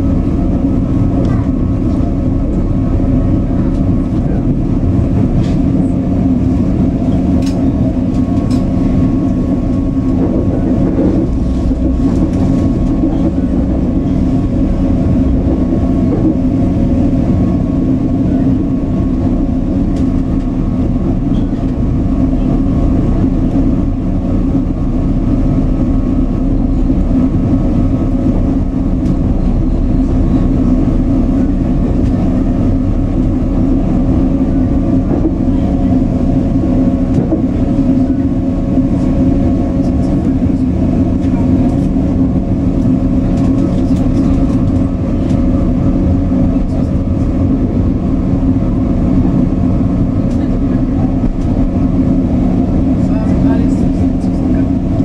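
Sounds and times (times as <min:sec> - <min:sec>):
steady hum: 0:00.0 - 0:55.0
train wheels rumbling on rails: 0:00.0 - 0:55.0.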